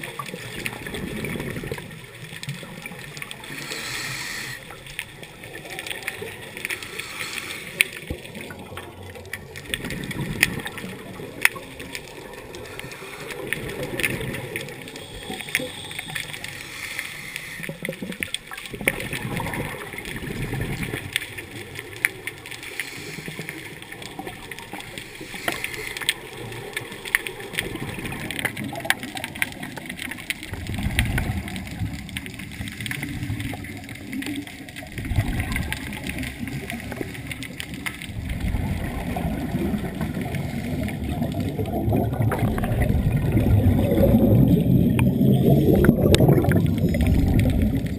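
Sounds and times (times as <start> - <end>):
underwater bubbling: 0.0 - 47.9.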